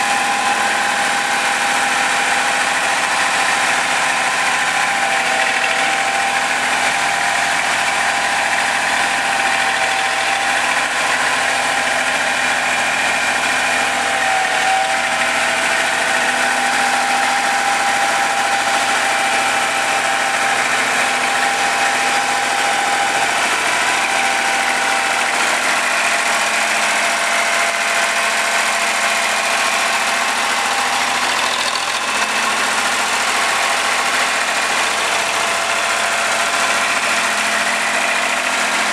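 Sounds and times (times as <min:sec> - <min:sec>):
road roller engine running: 0:00.0 - 0:38.9.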